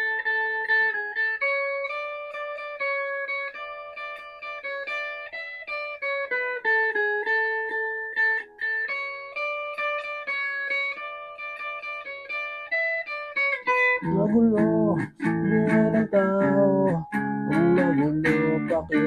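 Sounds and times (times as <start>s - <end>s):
guitar picked notes and chords: 0.0s - 19.0s.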